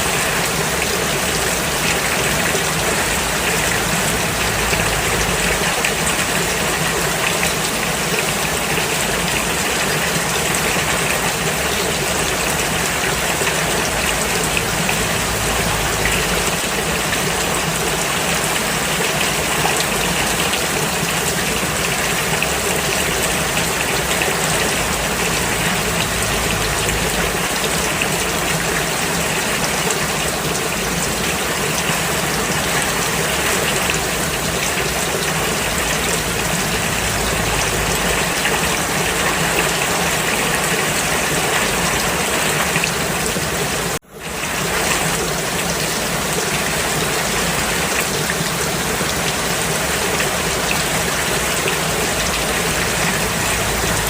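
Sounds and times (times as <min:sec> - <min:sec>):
dense rainfall hissing: 0:00.0 - 0:54.0.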